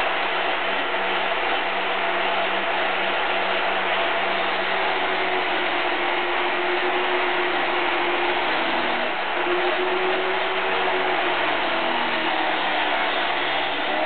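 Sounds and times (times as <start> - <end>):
angle grinder cutting steel: 1.0 - 14.0.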